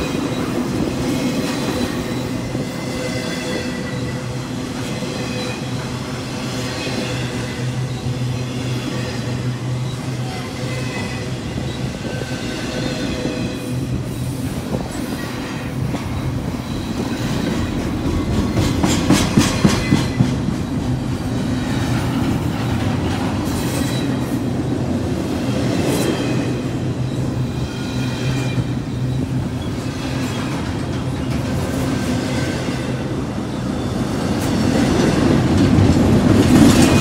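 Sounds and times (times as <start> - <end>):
train cars rumbling past: 0.0 - 37.0.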